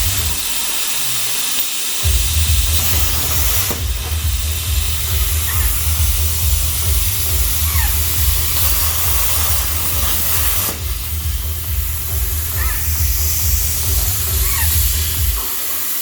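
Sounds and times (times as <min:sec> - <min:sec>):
plasma torch air hiss: 0:00.0 - 0:16.0
strong low buzz: 0:02.0 - 0:15.4.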